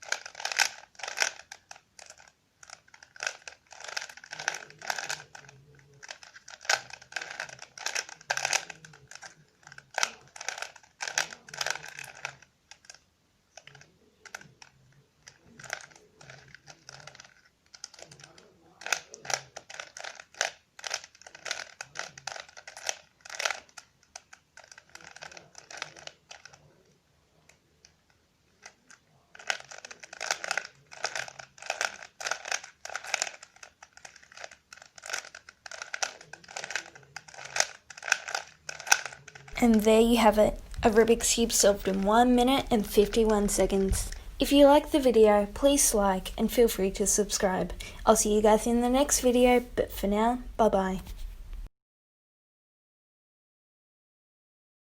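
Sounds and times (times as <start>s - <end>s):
plastic puzzle cube clicking: 0.0s - 39.6s, 40.5s - 49.8s.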